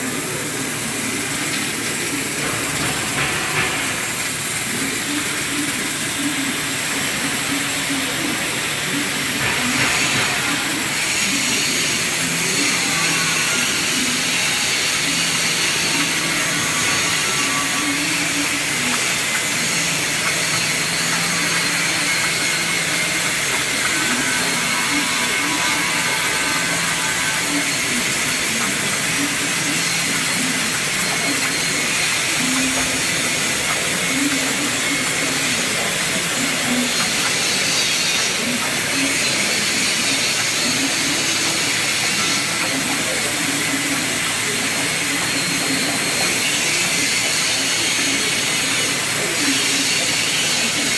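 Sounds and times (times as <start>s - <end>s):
high-pressure water jet hissing: 0.0s - 50.9s.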